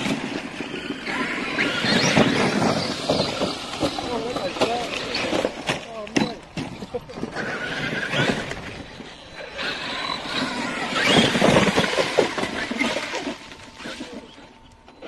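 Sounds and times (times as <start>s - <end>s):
tyres churning sand: 0.0s - 14.6s
rc car motor whine: 0.0s - 15.0s.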